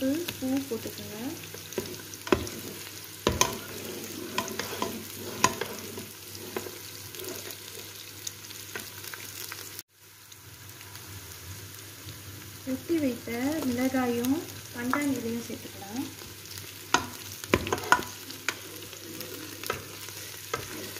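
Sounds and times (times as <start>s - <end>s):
onions sizzling in oil: 0.0s - 20.9s.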